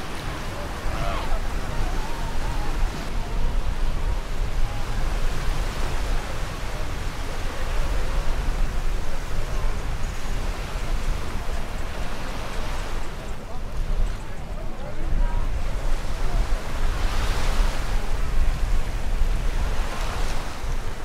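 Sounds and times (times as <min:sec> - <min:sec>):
faint voices: 0:00.0 - 0:21.0
waves washing up a beach: 0:00.0 - 0:21.0
wind rumbling on microphone: 0:00.0 - 0:21.0.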